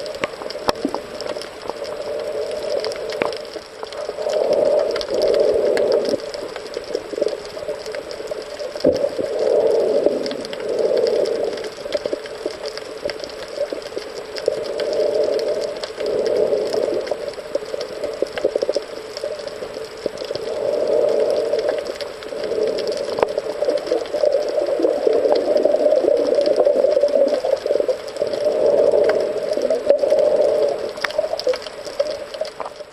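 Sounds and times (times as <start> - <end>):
muffled underwater rushing: 0.0 - 32.9
small clicks: 0.0 - 32.9.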